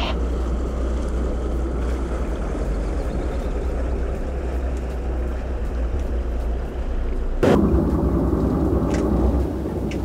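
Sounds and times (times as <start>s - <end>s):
boat engine running: 0.0s - 10.0s
water wash: 0.0s - 10.0s.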